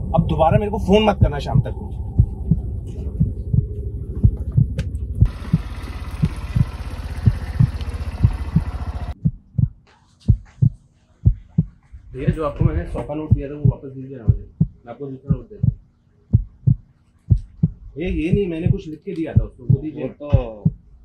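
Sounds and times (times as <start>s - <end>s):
low rumble: 0.0s - 19.9s
low heartbeat-like thumping: 0.0s - 21.0s.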